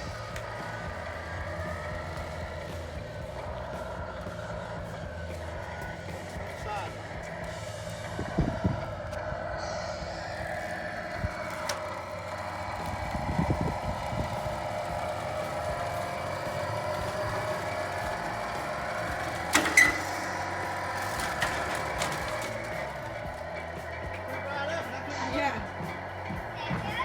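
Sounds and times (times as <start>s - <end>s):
model truck motor whine: 0.0s - 27.0s.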